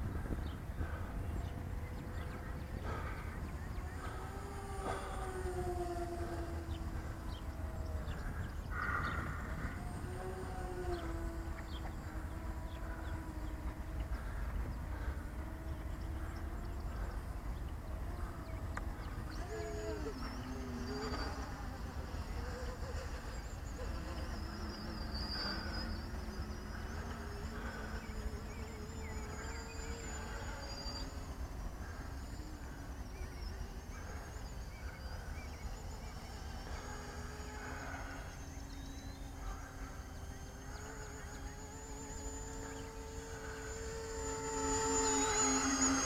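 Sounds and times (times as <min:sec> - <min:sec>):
model aircraft motors whining: 0:00.0 - 0:46.0.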